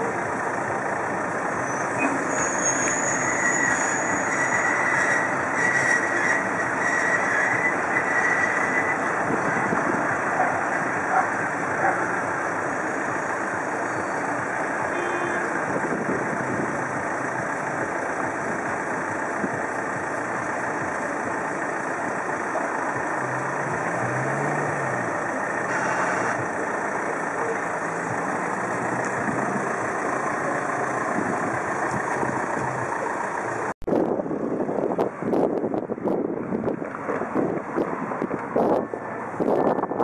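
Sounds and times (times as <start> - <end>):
car engines idling: 0.0 - 40.0
cars driving past: 0.0 - 40.0.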